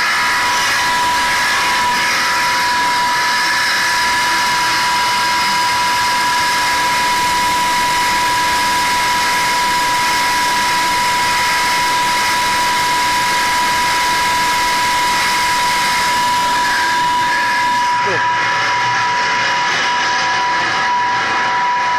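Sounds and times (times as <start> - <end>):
pump machine high whine: 0.0 - 21.9.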